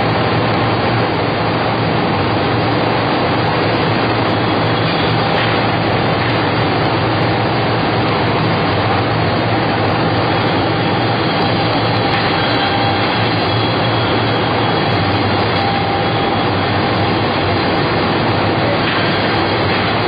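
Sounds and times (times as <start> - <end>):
faint steady machine whine: 0.0 - 20.0
production machine running: 0.0 - 20.0.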